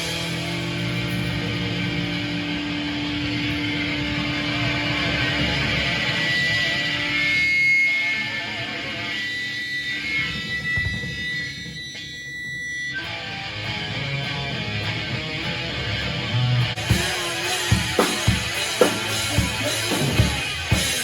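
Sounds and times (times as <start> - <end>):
band music with electric guitar: 0.0 - 21.0.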